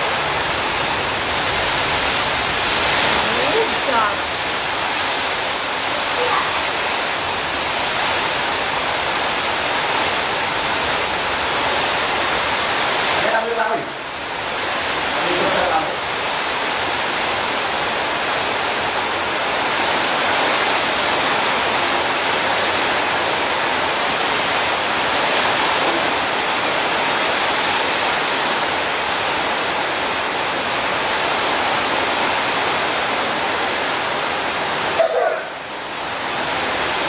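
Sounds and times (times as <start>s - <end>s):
steady rushing noise: 0.0s - 37.0s.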